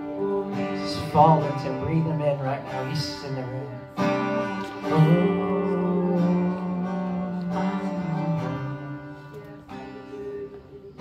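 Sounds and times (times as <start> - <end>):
acoustic guitar strumming: 0.0 - 11.0
long held notes: 0.0 - 11.0.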